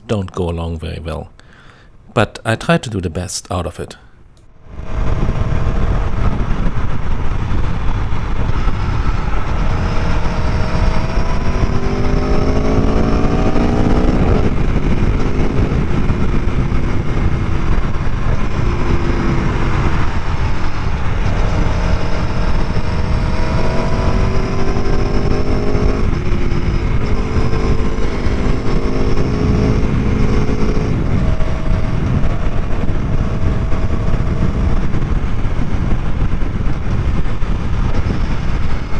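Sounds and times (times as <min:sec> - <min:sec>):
wind noise rumble: 0:04.4 - 0:38.9
motorcycle engine shifting up: 0:04.7 - 0:38.9.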